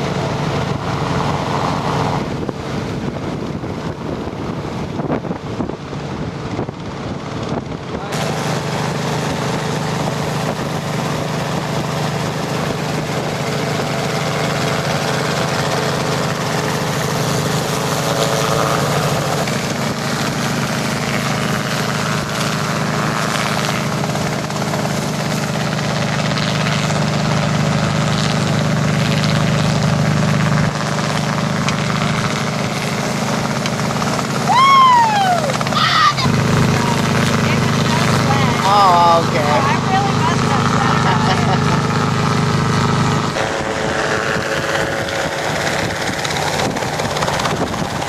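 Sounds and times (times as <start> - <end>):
helicopter rotor and engine drone: 0.0 - 48.0.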